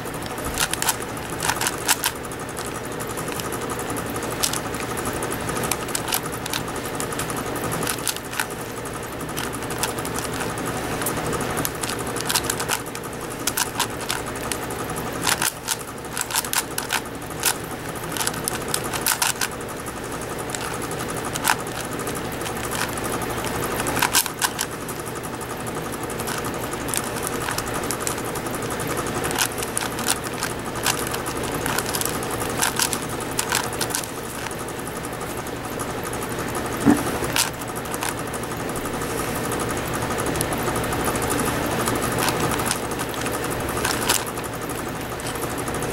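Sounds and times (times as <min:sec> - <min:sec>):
puzzle cube clicking: 0:00.0 - 0:19.6, 0:20.3 - 0:25.0, 0:26.0 - 0:34.7, 0:36.8 - 0:38.2, 0:40.3 - 0:44.4
steady low hum: 0:00.0 - 0:45.9.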